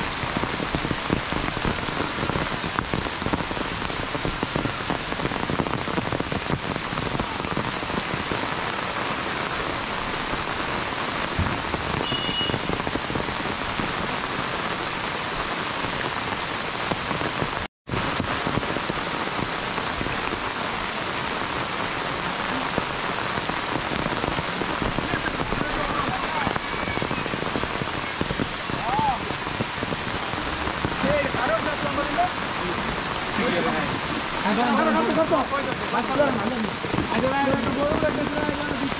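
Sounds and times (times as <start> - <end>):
heavy rain falling: 0.0 - 38.9
heavy rain on umbrella: 0.0 - 38.9.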